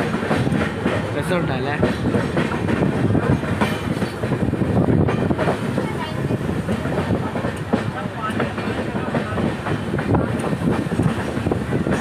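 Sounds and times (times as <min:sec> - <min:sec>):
train wheels clattering over track: 0:00.0 - 0:12.0.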